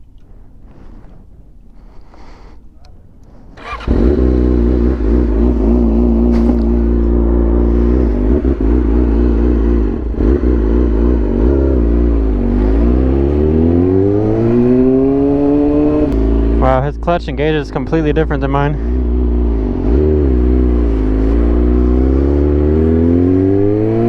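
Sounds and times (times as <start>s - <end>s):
motorcycle engine revving: 3.6s - 24.0s.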